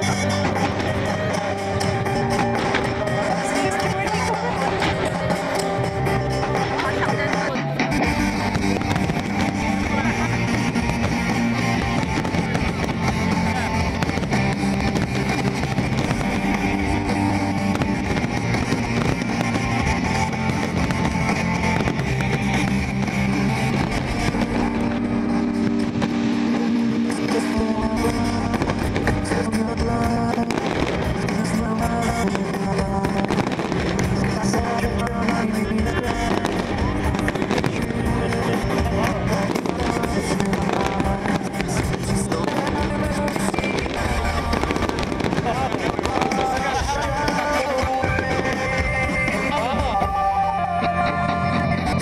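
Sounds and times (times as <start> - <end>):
fireworks bursting and crackling: 0.0 - 50.7
music playing: 0.0 - 52.0.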